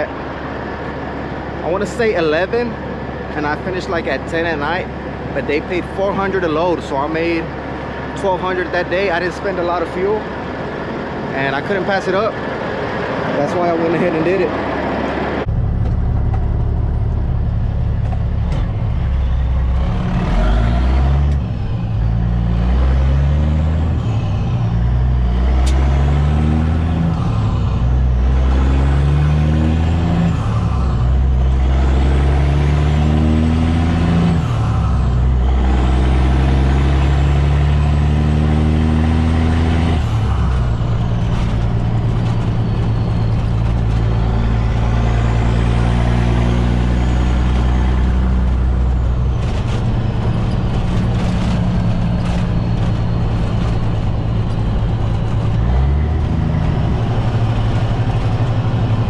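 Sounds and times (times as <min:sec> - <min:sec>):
diesel truck engine shifting gears: 0:00.0 - 0:59.0.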